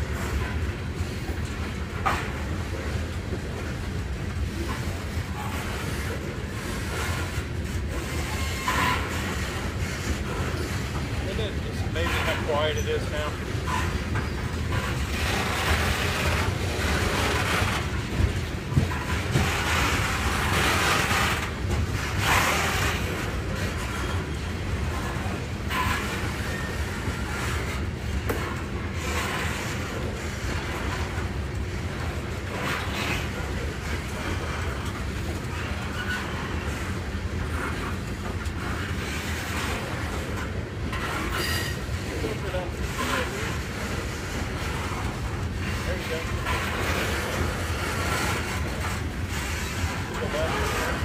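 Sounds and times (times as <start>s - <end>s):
steel wheels rumbling on rails: 0.0s - 51.0s.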